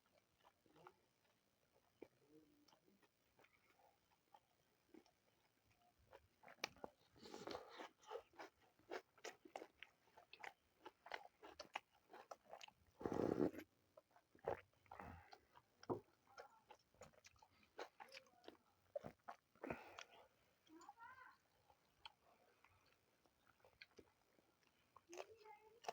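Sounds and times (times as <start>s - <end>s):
people chewing food: 0.0s - 25.9s.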